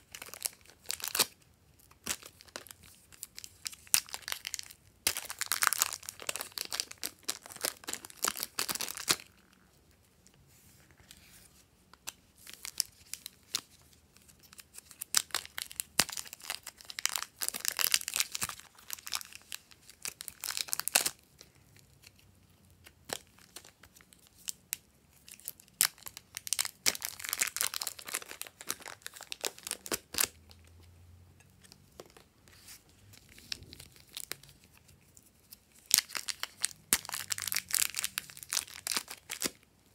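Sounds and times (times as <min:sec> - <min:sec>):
plastic wrappers crinkling and tearing: 0:00.0 - 0:09.6, 0:12.0 - 0:22.2, 0:23.0 - 0:30.6, 0:31.7 - 0:39.9.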